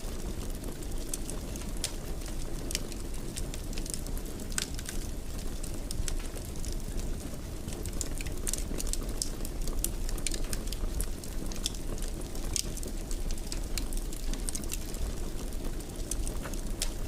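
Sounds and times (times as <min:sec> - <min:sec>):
fire popping and snapping: 0:00.0 - 0:17.0
low rumble of flames: 0:00.0 - 0:17.0.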